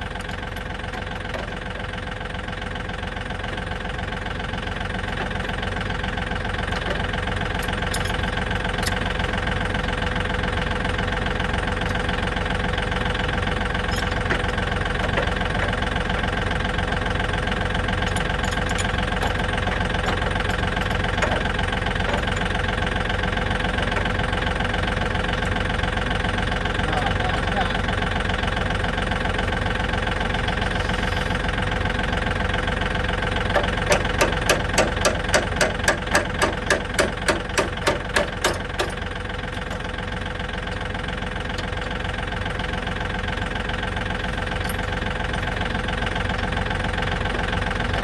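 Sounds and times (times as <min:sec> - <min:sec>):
tractor engine idling: 0:00.0 - 0:48.0.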